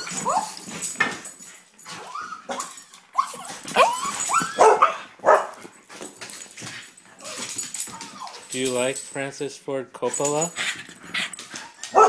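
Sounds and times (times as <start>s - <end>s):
dogs whining yipping and barking: 0.0s - 8.8s, 10.6s - 12.0s.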